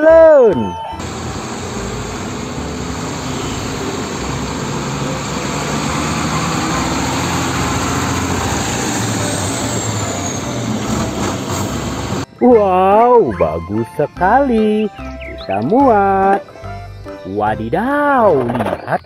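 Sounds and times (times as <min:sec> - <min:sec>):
tyre and road noise: 0:00.0 - 0:19.0
truck diesel engine passing: 0:00.7 - 0:18.7.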